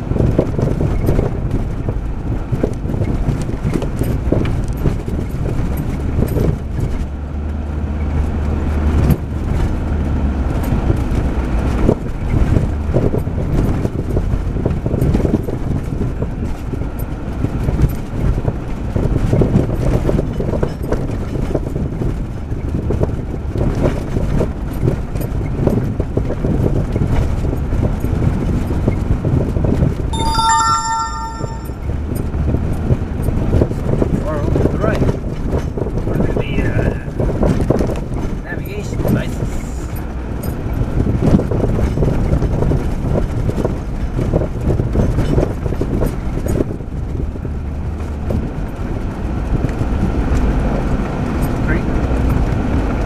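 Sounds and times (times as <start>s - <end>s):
engine and tyres rumbling: 0.0s - 30.1s, 31.9s - 53.0s.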